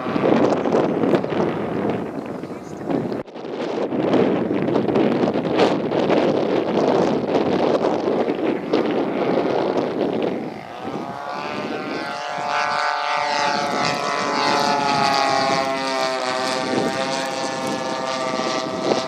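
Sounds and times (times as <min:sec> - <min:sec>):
model plane propeller engines droning: 0:00.0 - 0:19.0
wind buffeting microphone: 0:00.0 - 0:19.0.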